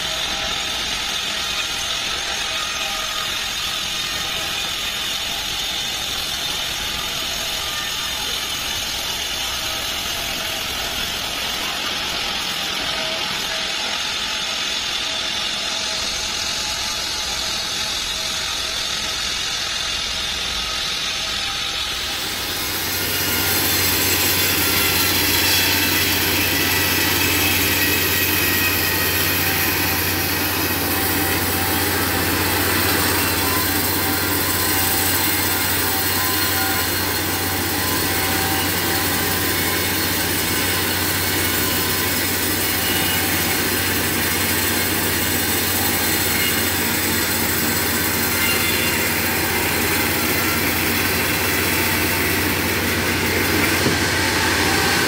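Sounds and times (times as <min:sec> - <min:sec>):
band saw blade hissing in wood: 0:00.0 - 0:55.0.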